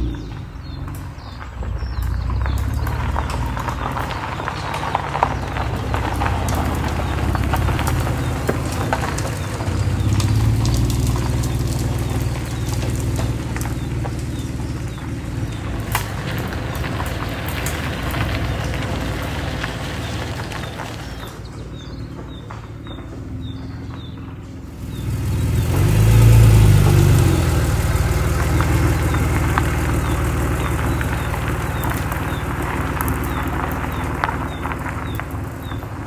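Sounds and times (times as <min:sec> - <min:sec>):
car engine running at low speed: 0:00.0 - 0:36.0
gravel crunching under tyres: 0:00.0 - 0:36.0.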